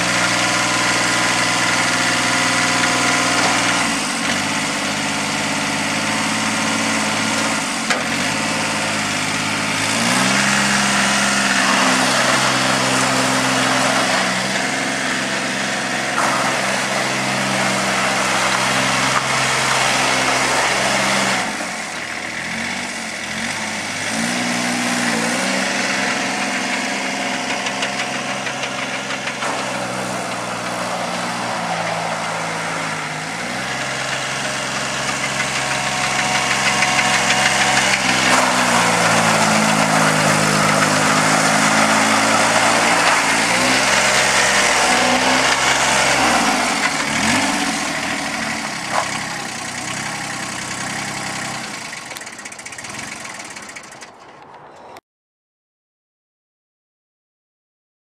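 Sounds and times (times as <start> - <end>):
mini dumper engine running: 0.0 - 54.6.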